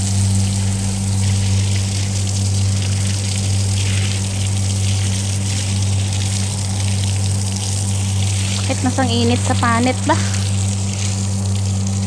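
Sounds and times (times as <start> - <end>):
electric motor hum: 0.0 - 12.0
water gushing and splashing on concrete: 0.0 - 12.0.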